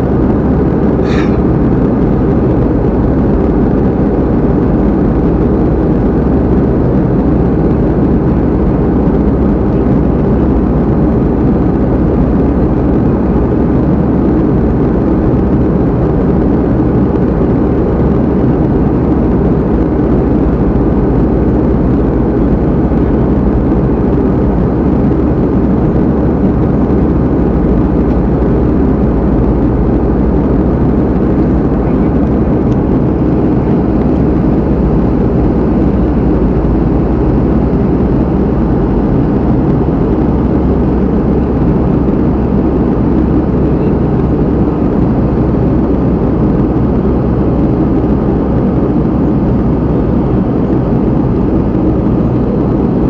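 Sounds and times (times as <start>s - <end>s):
moving vehicle rumble: 0.0s - 53.0s.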